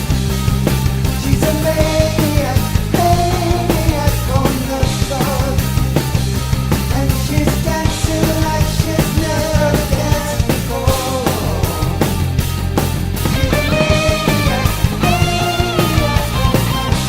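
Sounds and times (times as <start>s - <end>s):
bass: 0.0s - 17.0s
distorted electric guitar: 0.0s - 17.0s
drum beat: 0.0s - 17.0s.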